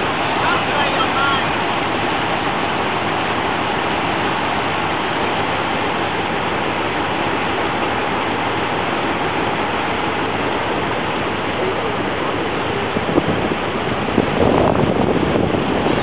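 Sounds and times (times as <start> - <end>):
boat engine running: 0.0 - 16.0
rush of wake water: 0.0 - 16.0
wind: 0.0 - 16.0.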